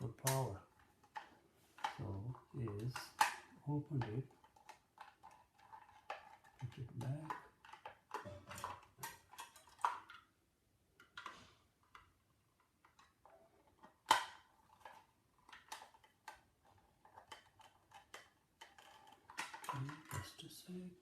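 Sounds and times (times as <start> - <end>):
small plastic parts clicking: 0.0 - 10.3, 11.0 - 20.5.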